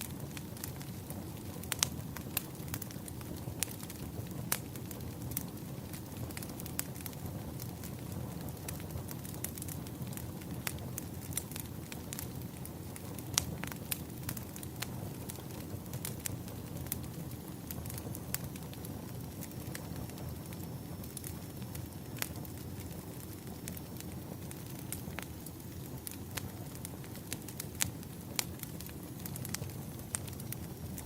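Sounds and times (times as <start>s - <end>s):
firewood crackling and popping: 0.0s - 31.0s
low rumble of fire: 0.0s - 31.0s.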